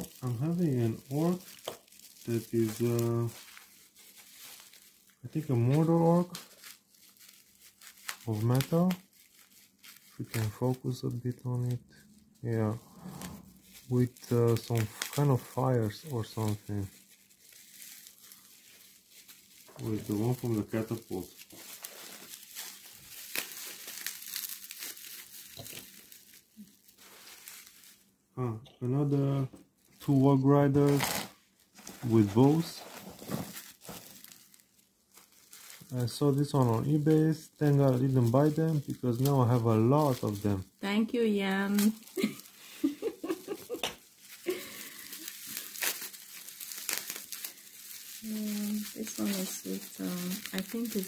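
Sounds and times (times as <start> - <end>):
packaging crinkling: 0.0 - 28.1, 29.7 - 51.0.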